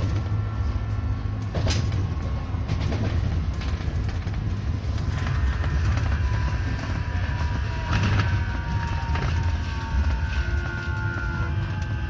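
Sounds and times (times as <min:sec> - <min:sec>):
low rumble of wheels on track: 0:00.0 - 0:12.0.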